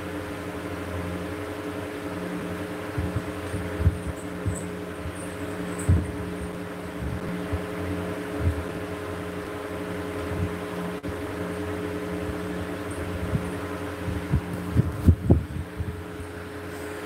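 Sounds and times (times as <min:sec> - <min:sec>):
ceiling fan humming: 0:00.0 - 0:17.0.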